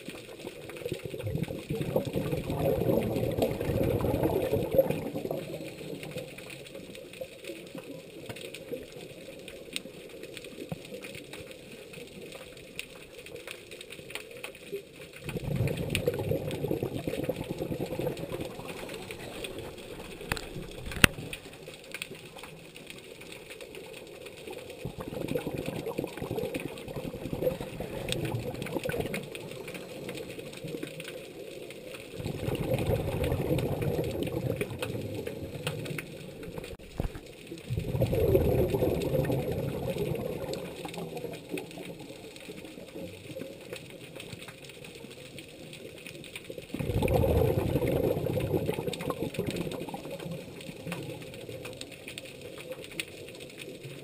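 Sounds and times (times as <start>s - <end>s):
muffled underwater water noise: 0.0s - 54.0s.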